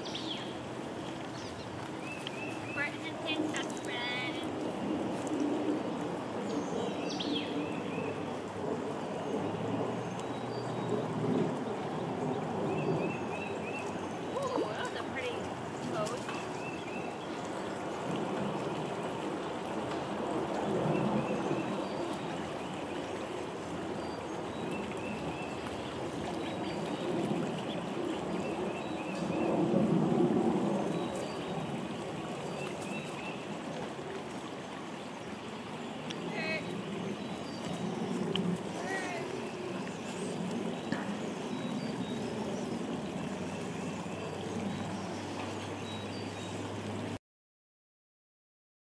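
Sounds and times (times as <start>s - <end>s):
stream water rushing: 0.0s - 47.2s.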